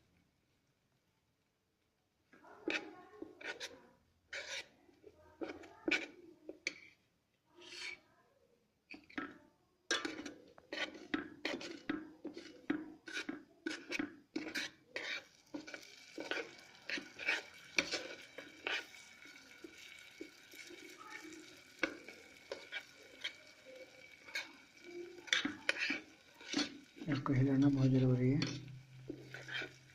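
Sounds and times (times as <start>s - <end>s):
spoon scraping a pot: 2.6s - 7.0s, 7.6s - 8.1s, 8.9s - 29.9s.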